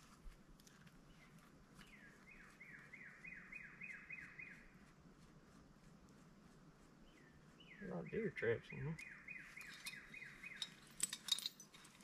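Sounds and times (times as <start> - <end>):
faint bird song: 1.0 - 12.0.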